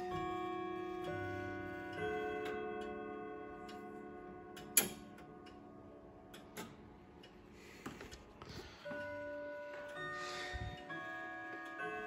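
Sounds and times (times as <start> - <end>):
clock chime notes ringing: 0.0 - 7.2, 8.6 - 12.0
grandfather clock ticking: 0.0 - 7.6, 8.8 - 12.0.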